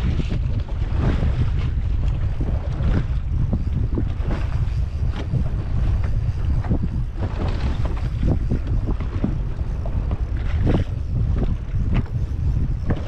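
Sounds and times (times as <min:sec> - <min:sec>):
water slapping against hull: 0:00.0 - 0:13.0
wind buffeting microphone: 0:00.0 - 0:13.0.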